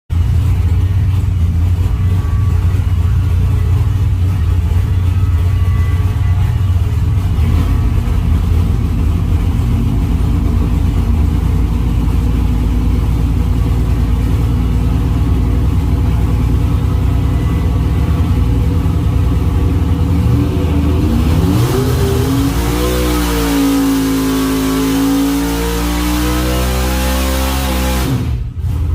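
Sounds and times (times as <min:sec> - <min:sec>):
engine rumbling and revving: 0:00.1 - 0:28.9.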